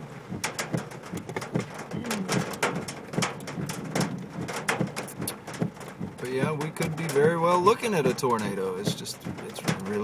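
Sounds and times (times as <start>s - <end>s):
rain and hail on vehicle: 0.0s - 10.0s.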